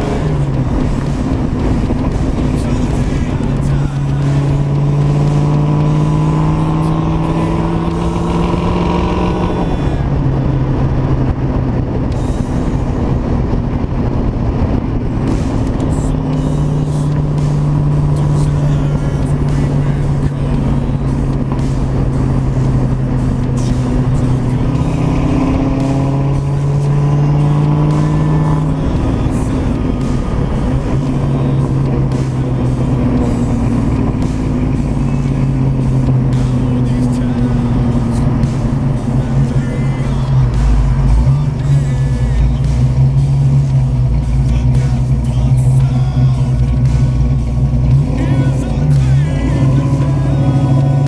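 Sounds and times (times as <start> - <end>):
car engine accelerating: 0.0 - 51.0
wind and road noise: 0.0 - 51.0.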